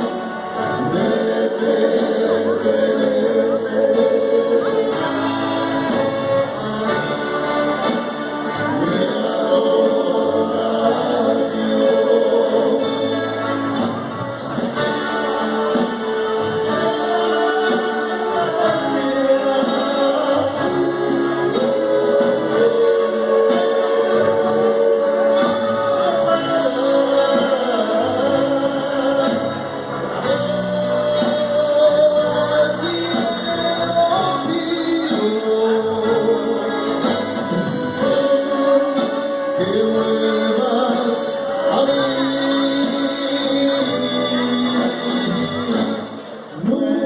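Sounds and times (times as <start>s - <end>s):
band playing: 0.0s - 47.0s
voices singing together: 0.0s - 47.0s.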